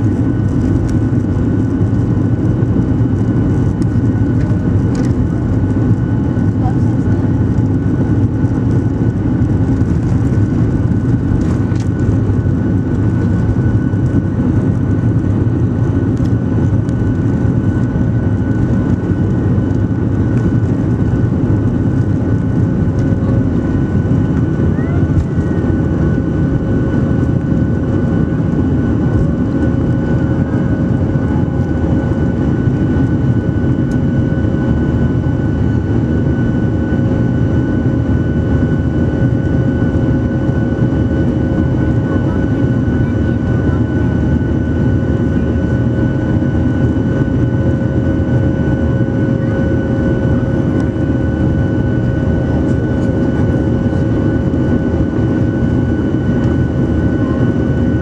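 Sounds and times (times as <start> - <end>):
high fan whine: 0.0 - 58.0
jet engine rumble in cabin: 0.0 - 58.0.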